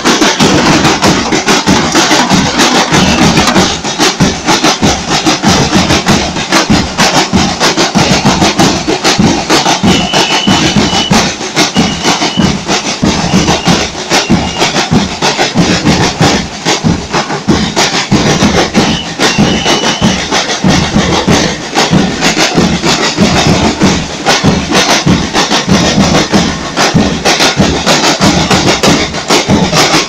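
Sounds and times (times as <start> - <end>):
percussion band drumming: 0.0 - 30.0.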